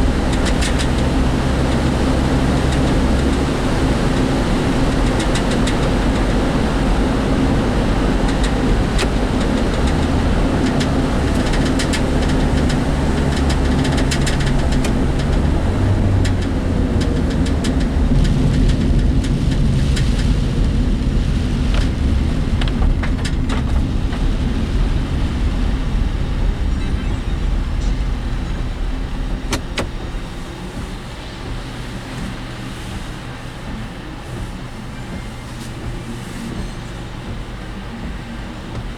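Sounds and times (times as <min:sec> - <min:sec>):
engine and road rumble: 0:00.0 - 0:38.9
vehicle rattles and knocks: 0:00.0 - 0:38.9.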